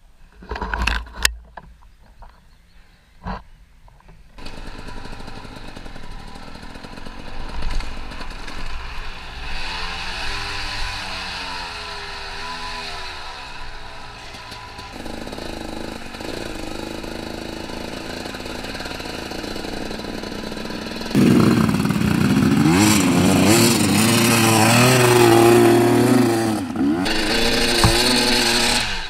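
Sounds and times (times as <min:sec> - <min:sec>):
dirt bike engine revving: 0:04.4 - 0:29.0.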